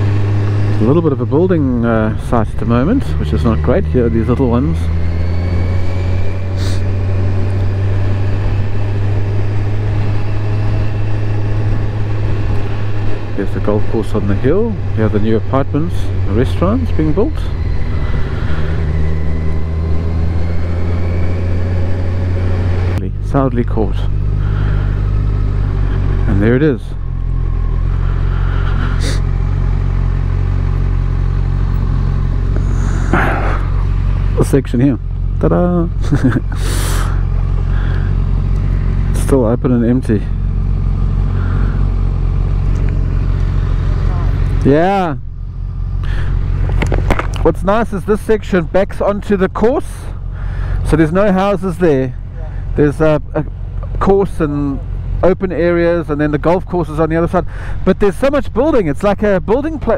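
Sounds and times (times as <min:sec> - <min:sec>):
motorcycle engine cruising: 0:00.0 - 0:59.9
road noise: 0:00.0 - 0:59.9.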